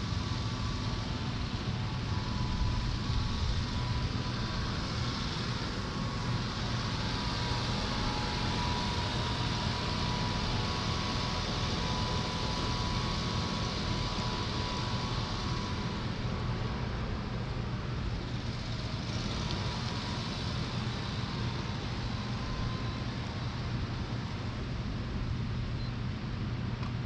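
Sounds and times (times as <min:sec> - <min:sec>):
faint motor whines: 0:00.0 - 0:27.0
fans humming: 0:00.0 - 0:27.0.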